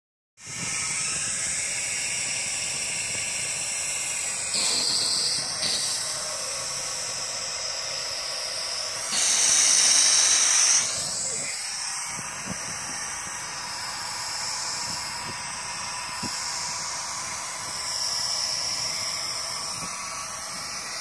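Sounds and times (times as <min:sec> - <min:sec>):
propane torch hissing: 0:00.4 - 0:21.0.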